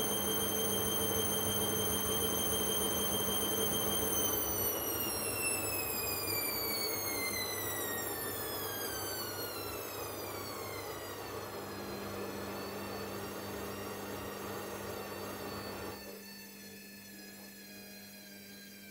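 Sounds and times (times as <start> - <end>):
washing machine motor whine: 0.0 - 18.9.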